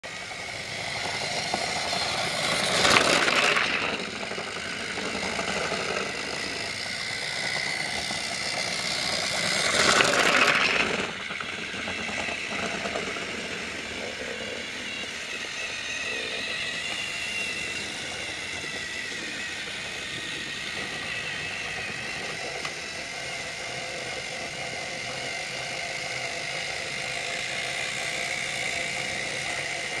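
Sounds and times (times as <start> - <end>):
toy train motor whirring: 0.0 - 30.0.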